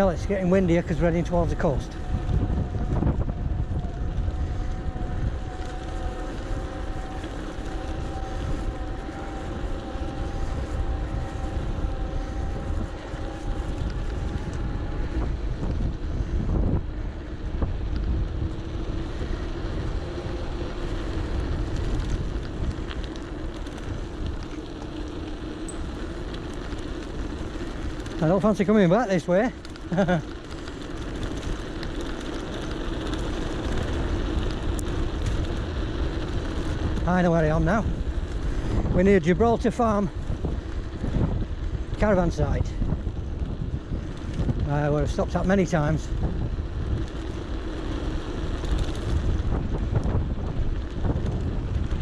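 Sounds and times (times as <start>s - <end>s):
electric bike motor whine: 0.0s - 52.0s
wind buffeting microphone: 0.0s - 52.0s.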